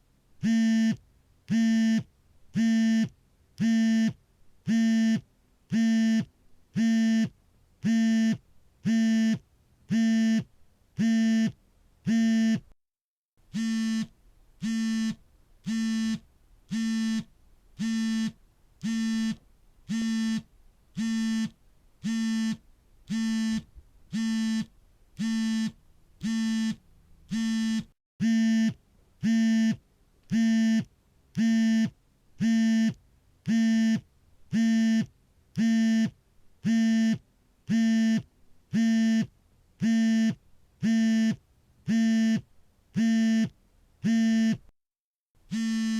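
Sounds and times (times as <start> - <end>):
smartphone vibrating: 0.4 - 12.6, 13.5 - 44.6, 45.5 - 45.9.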